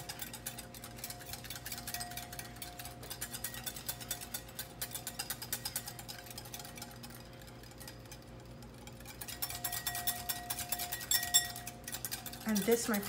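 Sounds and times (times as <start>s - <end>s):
whisk clicking against glass bowl: 0.0s - 13.0s.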